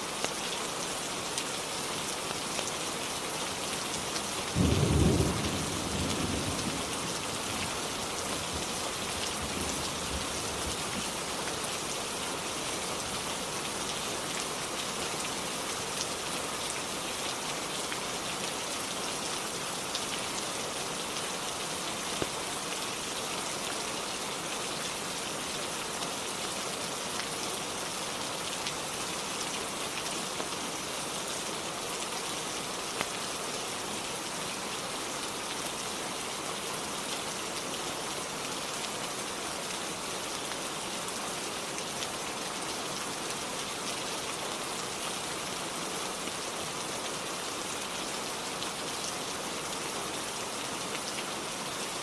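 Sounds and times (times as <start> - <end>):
rain on a roof: 0.0 - 52.0.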